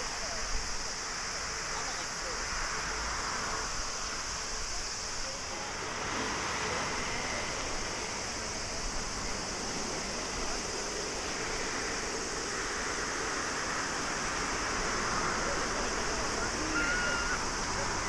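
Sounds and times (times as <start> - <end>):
faint high engine whine: 0.0 - 18.0
jet engines rushing hiss: 0.0 - 18.0.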